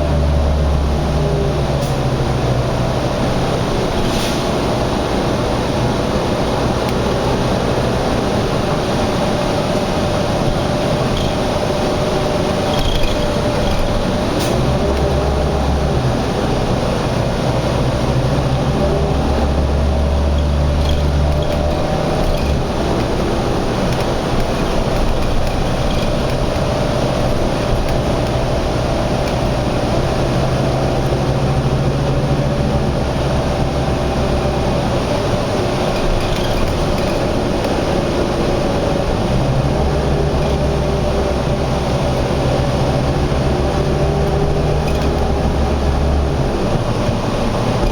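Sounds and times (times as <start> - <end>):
heavy engine drone: 0.0 - 47.9.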